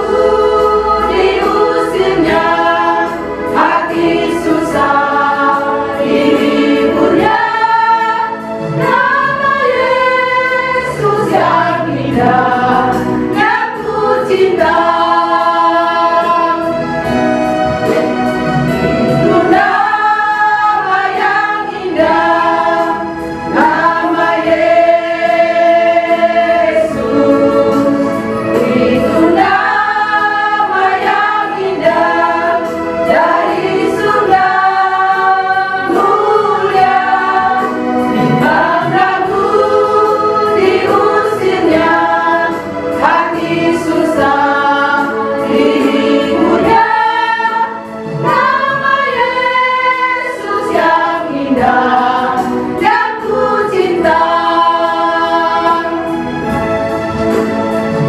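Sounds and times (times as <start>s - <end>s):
women's group singing a hymn: 0.0s - 56.8s.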